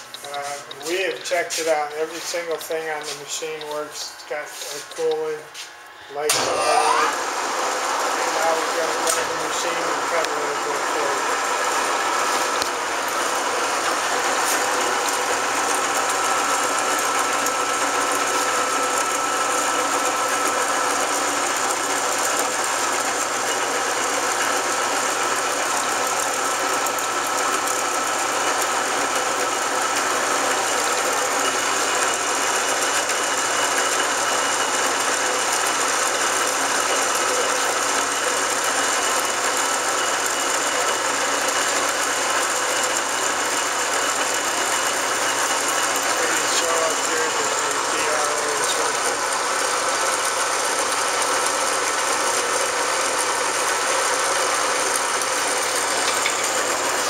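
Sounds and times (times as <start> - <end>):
lathe running with whine: 0.0 - 57.0.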